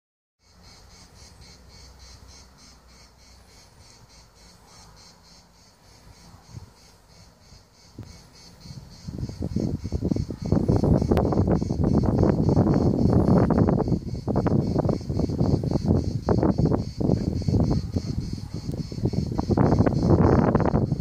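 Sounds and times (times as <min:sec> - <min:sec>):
insects chirping: 0:00.4 - 0:21.0.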